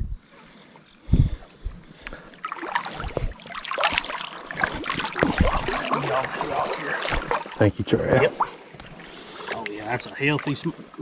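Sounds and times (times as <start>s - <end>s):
river water splashing: 1.8s - 11.0s.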